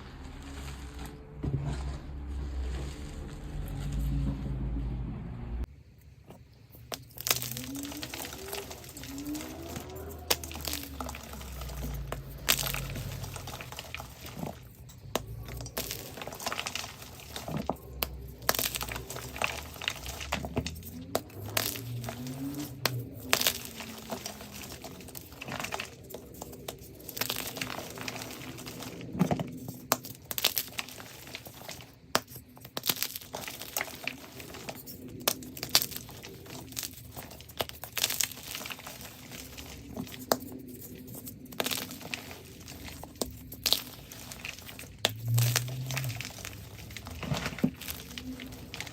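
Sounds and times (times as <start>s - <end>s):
chalk crunching and snapping: 6.3s - 48.9s.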